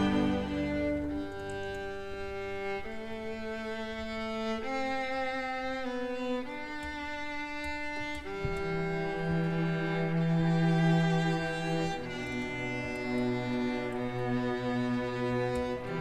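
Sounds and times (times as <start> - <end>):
string orchestra bowed chords: 0.0 - 16.0.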